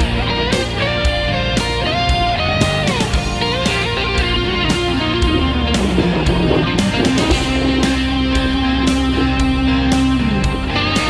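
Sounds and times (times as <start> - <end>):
guitar music over steady beat: 0.0 - 11.0.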